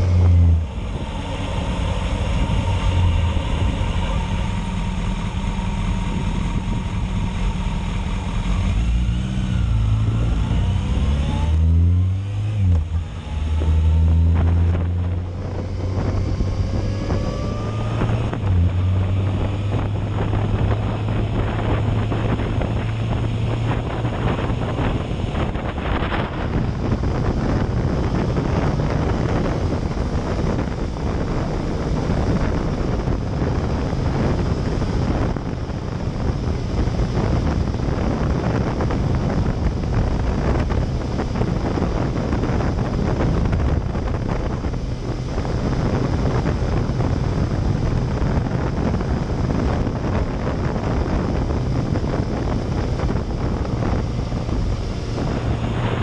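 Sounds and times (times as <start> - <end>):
motorcycle engine drone: 0.0 - 56.0
wind rushing over microphone: 0.0 - 56.0.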